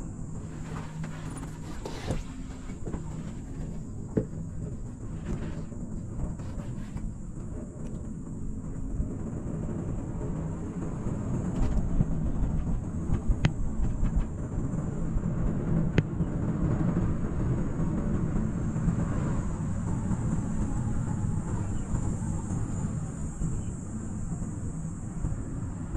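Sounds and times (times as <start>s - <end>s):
cable car cabin rumbling: 0.0s - 25.9s.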